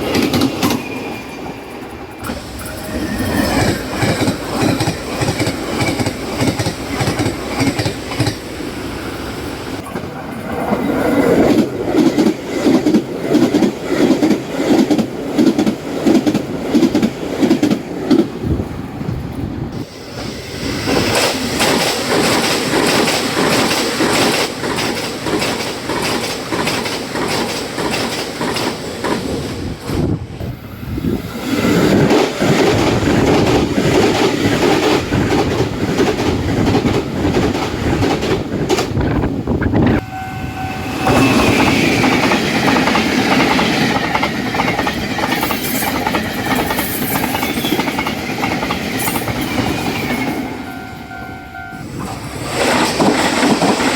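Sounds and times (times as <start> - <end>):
train wheels clacking on rail joints: 0.0 - 8.5, 9.8 - 18.5, 19.8 - 30.1, 31.6 - 40.0, 41.0 - 50.9, 51.9 - 53.9.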